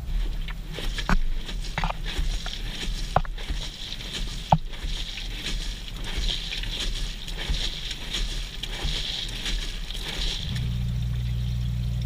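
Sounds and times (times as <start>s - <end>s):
laundry tumbling: 0.0s - 10.9s
washing machine hum: 0.0s - 12.0s
water sloshing: 0.0s - 12.0s.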